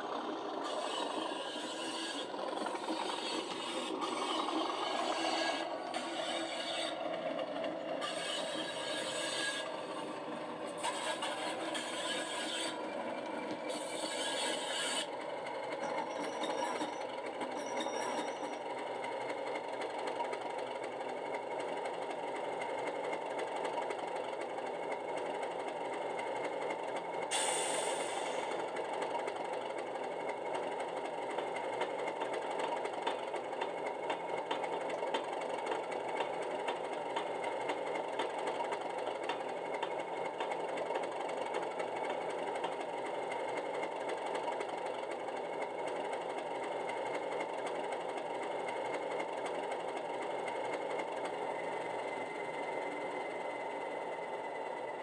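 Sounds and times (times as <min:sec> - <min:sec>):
diesel engine through small speaker: 0:00.0 - 0:55.0.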